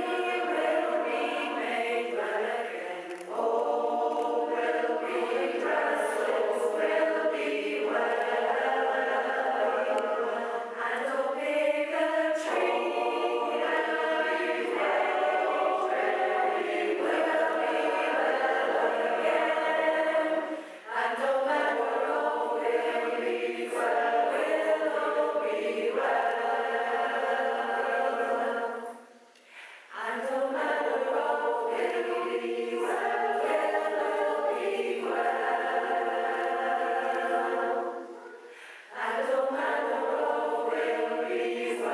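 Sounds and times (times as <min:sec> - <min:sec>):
mixed choir singing: 0:00.0 - 0:41.9.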